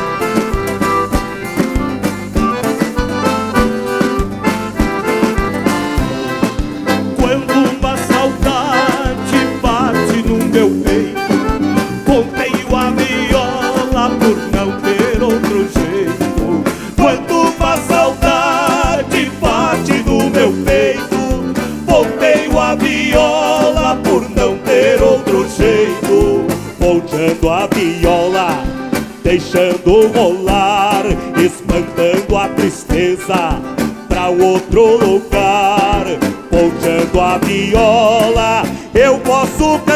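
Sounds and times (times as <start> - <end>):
accordion: 0.0 - 39.9
live band playing: 0.0 - 39.9
voices singing along: 6.0 - 39.9.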